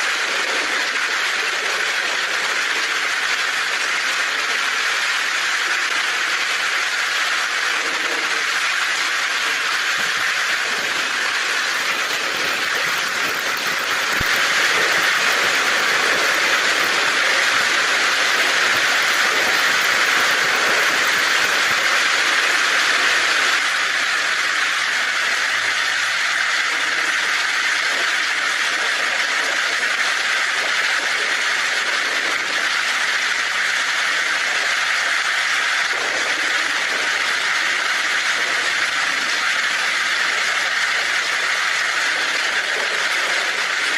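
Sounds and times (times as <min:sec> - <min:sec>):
heavy rain on a tin roof: 0:00.0 - 0:43.9.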